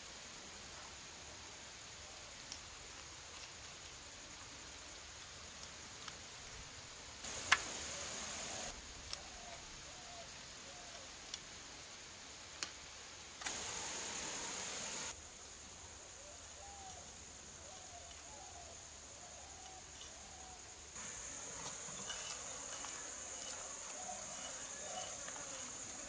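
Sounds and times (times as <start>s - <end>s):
high insect drone: 0.7s - 11.2s, 13.4s - 26.0s.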